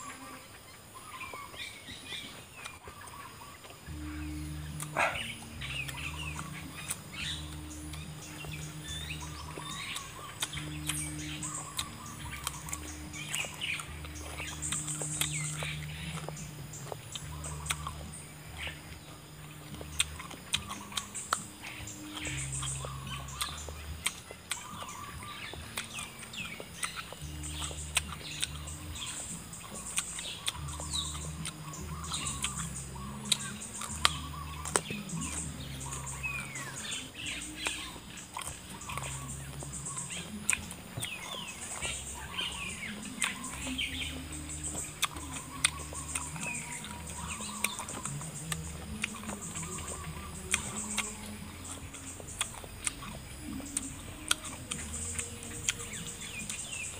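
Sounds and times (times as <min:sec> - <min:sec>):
birds chirping: 0:00.0 - 0:56.9
chewing crisp fruit: 0:00.0 - 0:56.9
background music with bass: 0:01.2 - 0:56.9
mouth clicks: 0:02.2 - 0:56.9.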